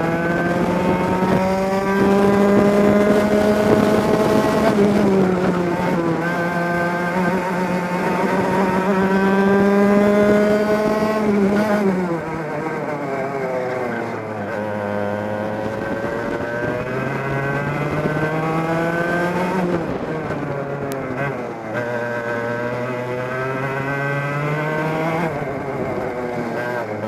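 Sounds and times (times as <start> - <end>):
kart engine revving: 0.0 - 27.0.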